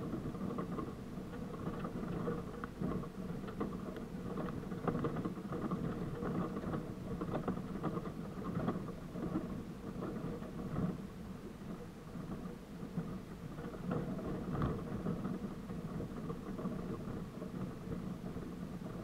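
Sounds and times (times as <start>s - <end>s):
body knocks and rattles: 0.0s - 11.1s, 11.7s - 19.0s.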